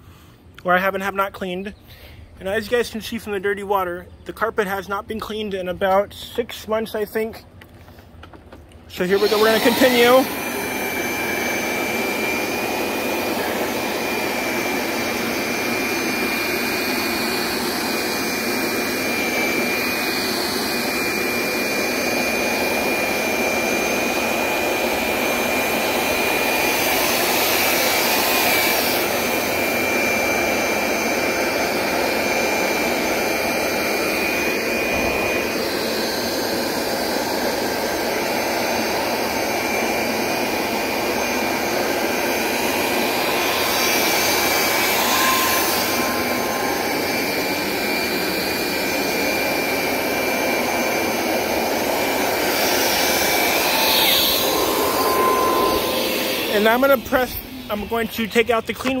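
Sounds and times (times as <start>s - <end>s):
carpet cleaner suction motor whine: 7.6s - 59.0s.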